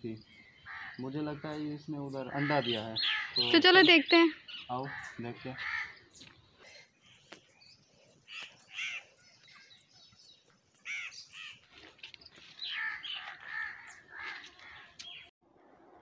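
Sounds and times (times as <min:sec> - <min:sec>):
birds calling: 0:00.0 - 0:15.3.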